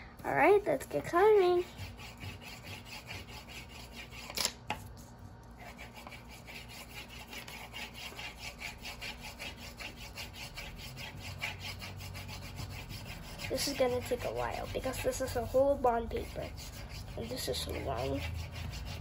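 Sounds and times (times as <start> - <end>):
crayon scribbling on paper: 1.2 - 4.3, 5.6 - 19.0.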